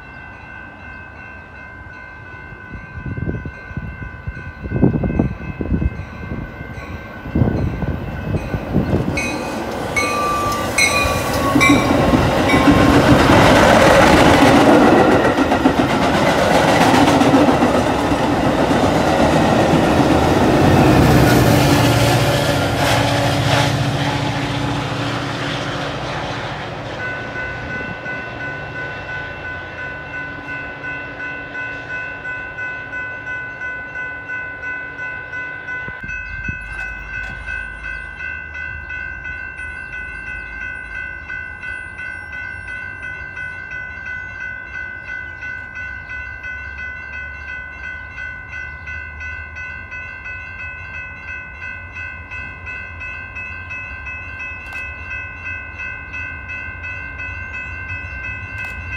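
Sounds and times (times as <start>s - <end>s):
crossing warning bells ringing: 0.0s - 58.9s
faint low train rumble: 0.0s - 58.9s
train departing: 0.0s - 58.9s.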